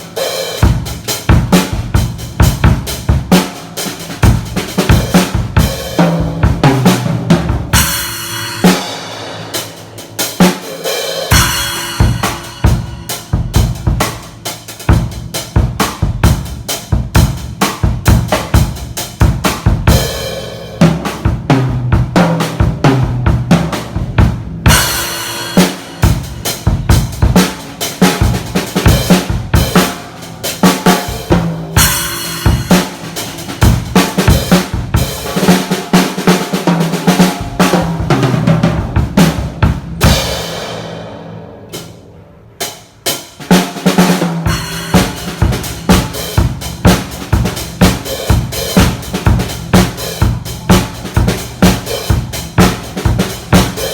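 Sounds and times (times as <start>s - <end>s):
drum kit groove: 0.0s - 53.9s.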